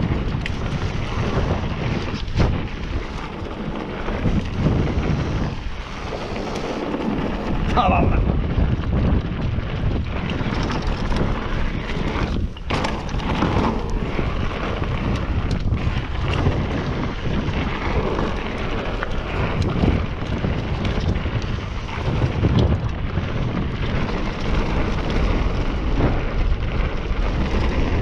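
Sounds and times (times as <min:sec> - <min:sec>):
mountain bike rumbling on rocky trail: 0:00.0 - 0:28.0
wind buffeting microphone: 0:00.0 - 0:28.0.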